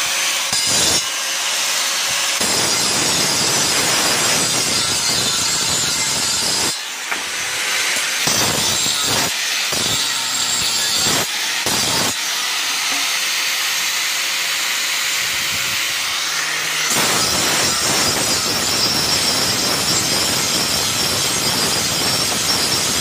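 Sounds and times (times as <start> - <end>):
angle grinder grinding metal: 0.0 - 23.0.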